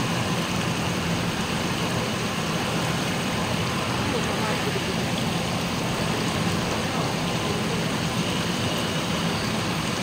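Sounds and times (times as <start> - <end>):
steam and water hissing: 0.0 - 10.0.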